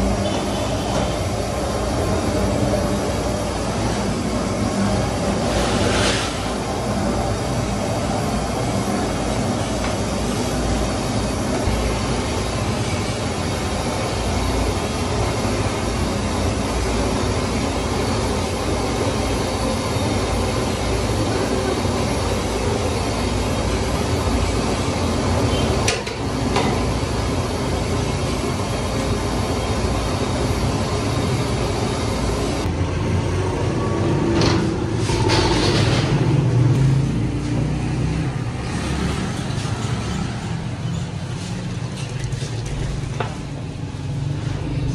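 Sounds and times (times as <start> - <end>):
gas burners rushing: 0.0 - 44.9.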